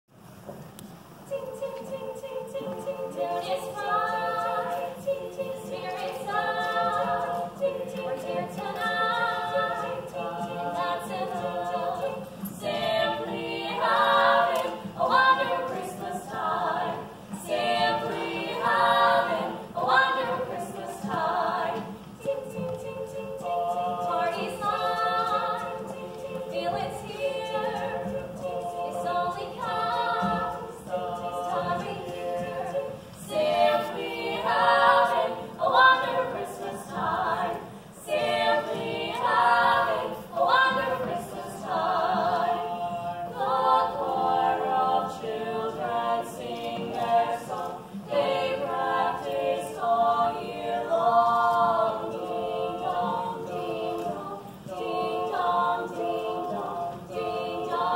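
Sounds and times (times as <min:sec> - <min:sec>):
women singing a cappella: 0:01.1 - 0:57.9.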